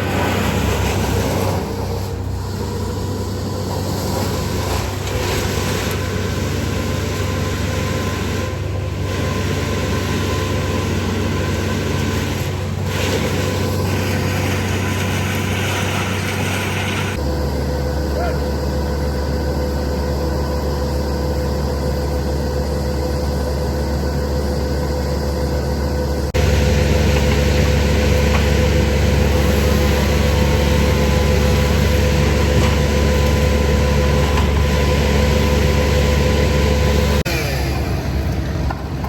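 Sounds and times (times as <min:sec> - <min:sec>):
heavy equipment engine running: 0:00.0 - 0:39.0.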